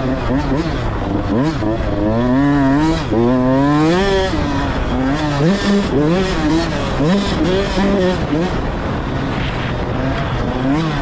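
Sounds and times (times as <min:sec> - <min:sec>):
dirt bike engine accelerating: 0:00.0 - 0:11.0.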